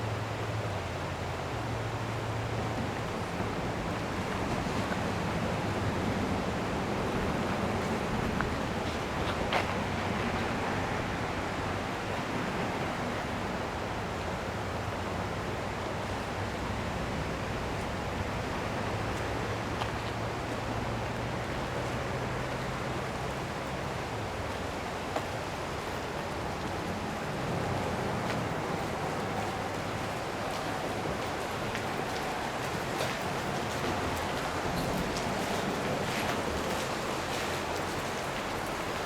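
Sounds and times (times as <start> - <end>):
fast-flowing river water rushing: 0.0 - 39.0.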